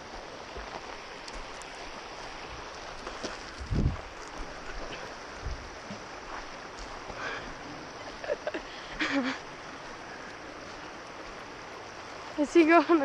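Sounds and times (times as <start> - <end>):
river water flowing over rocks: 0.0 - 13.0.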